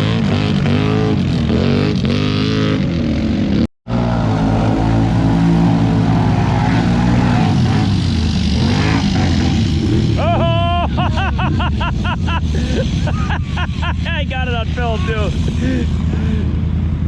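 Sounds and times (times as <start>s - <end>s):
atv engines revving: 0.0s - 17.0s.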